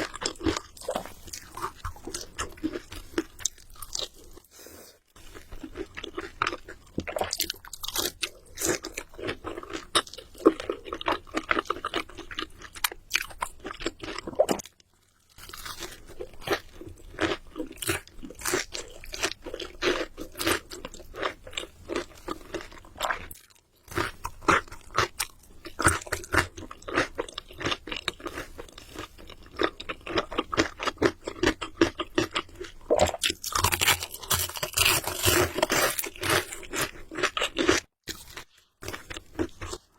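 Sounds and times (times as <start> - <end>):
crunching and chewing crisp food: 0.0 - 39.9.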